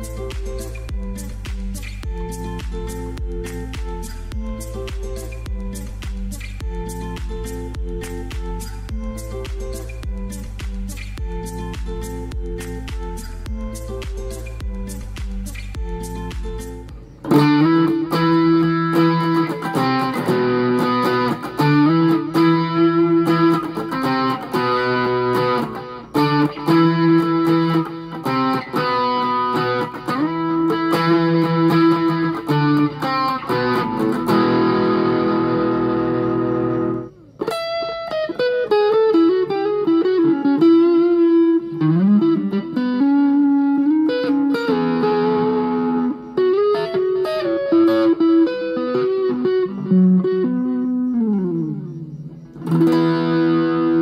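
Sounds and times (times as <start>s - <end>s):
electric guitar with overdrive: 0.0s - 54.0s.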